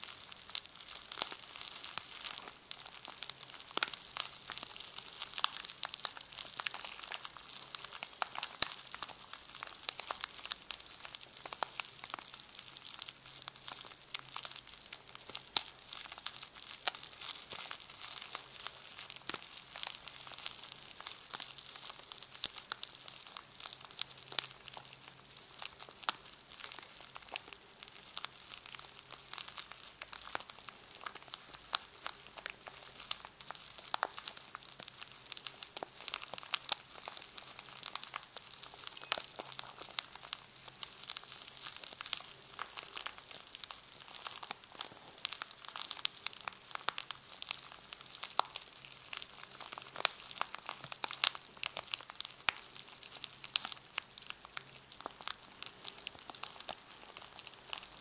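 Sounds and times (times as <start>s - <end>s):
wrapper rustling and crackling: 0.0s - 58.0s.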